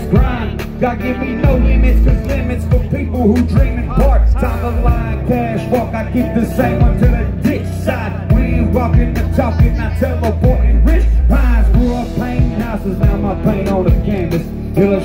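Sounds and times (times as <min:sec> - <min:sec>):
drum kit: 0:00.0 - 0:15.0
keyboard: 0:00.0 - 0:15.0
person singing: 0:00.0 - 0:15.0.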